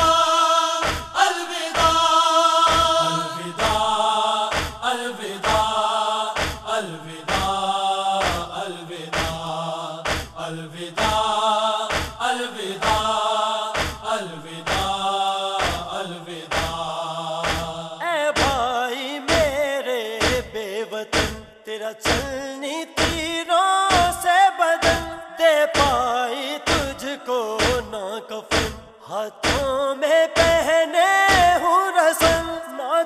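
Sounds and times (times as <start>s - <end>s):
rhythmic chest-beating: 0.0s - 18.7s, 19.3s - 22.4s, 23.0s - 29.8s, 30.4s - 32.6s
men chanting in unison: 0.0s - 33.0s.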